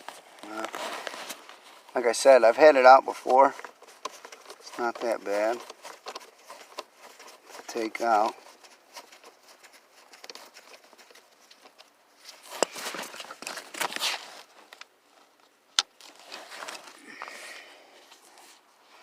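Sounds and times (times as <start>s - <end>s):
rustling and scraping under dashboard: 0.0s - 19.0s.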